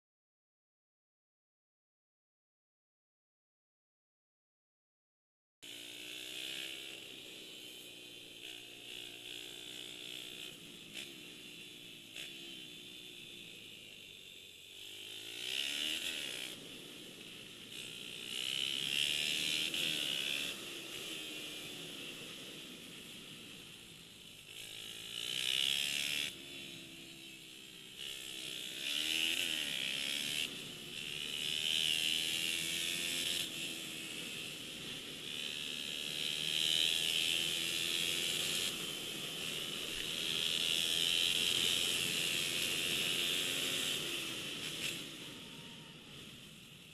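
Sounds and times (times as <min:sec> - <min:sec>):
pit bike engine revving: 0:05.6 - 0:46.4.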